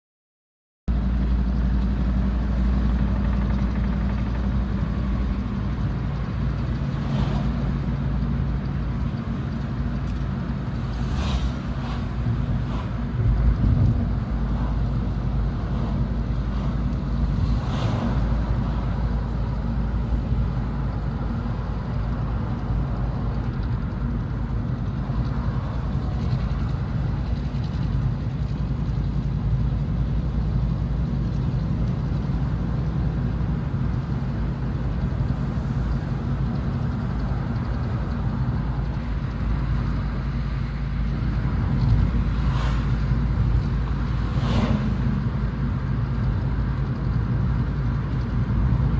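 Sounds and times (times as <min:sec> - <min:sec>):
diesel truck engine running: 0:00.9 - 0:48.9.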